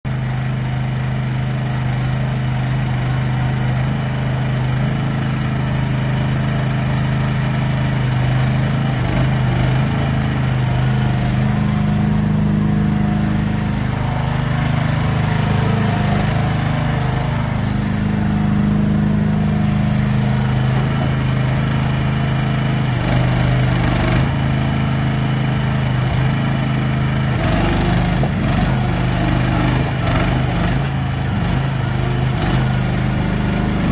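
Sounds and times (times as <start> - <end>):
small petrol engine running: 0.1 - 33.9.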